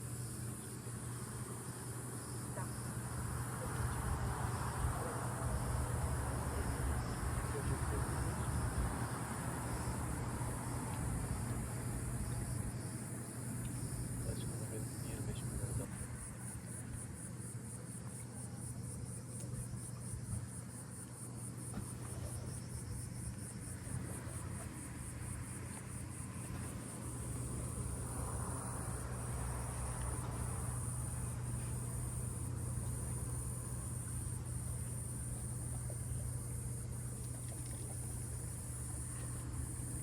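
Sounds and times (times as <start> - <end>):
insects chirring: 0.0 - 40.0
steady low hum: 0.0 - 40.0.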